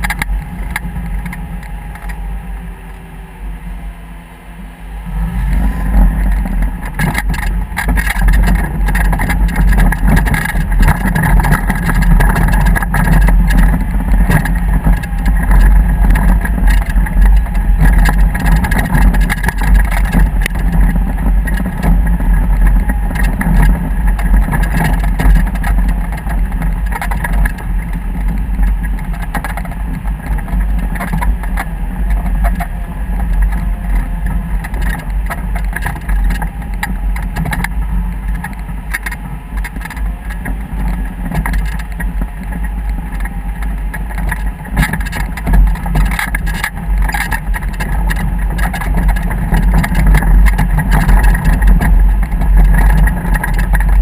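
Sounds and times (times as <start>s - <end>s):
motor vehicle engine rumbling: 0.0s - 54.0s.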